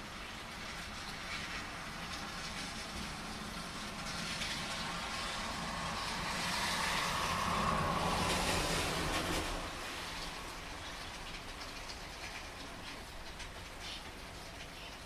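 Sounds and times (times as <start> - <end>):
car tyres hissing on wet road: 0.0 - 15.0
heavy rain: 0.0 - 15.0.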